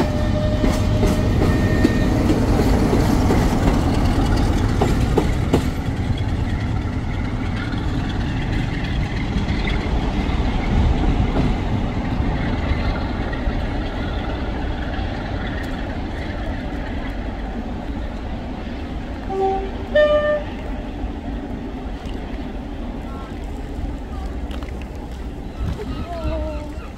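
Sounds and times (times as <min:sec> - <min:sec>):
steam train rumbling on rails: 0:00.0 - 0:26.9.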